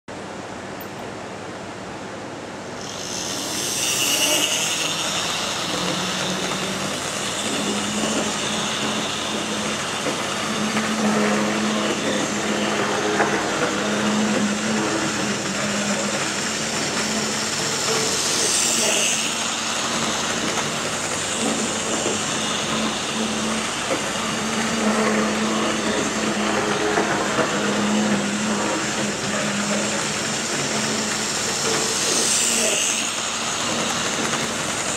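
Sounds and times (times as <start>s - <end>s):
wheels rattling on rails: 3.0s - 34.9s.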